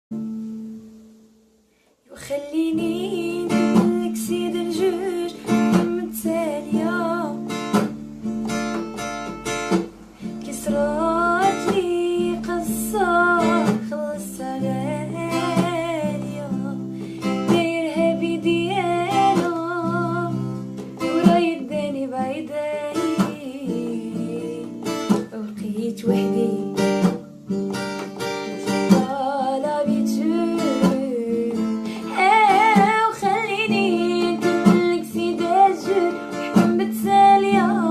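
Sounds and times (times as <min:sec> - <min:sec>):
acoustic guitar: 0:00.1 - 0:37.9
person singing: 0:02.1 - 0:07.8, 0:10.2 - 0:27.2, 0:28.2 - 0:37.9.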